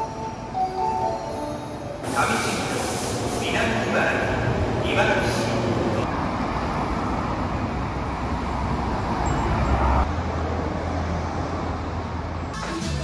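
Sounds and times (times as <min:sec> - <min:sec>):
road vehicles passing: 0:00.0 - 0:12.6.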